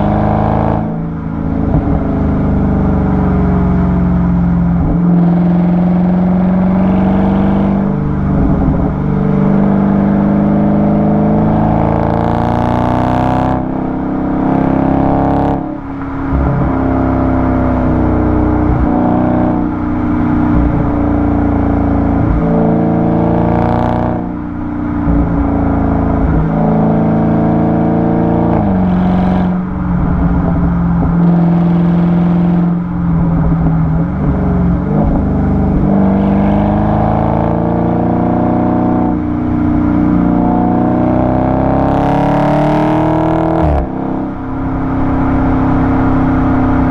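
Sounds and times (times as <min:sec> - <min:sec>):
car exhaust revving: 0:00.0 - 0:46.9.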